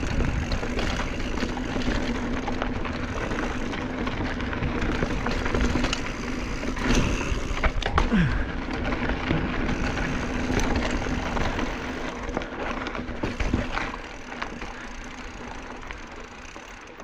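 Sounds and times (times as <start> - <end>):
bike clicks and rattles: 0.0 - 17.0
bike tyres on dirt trail: 0.0 - 17.0.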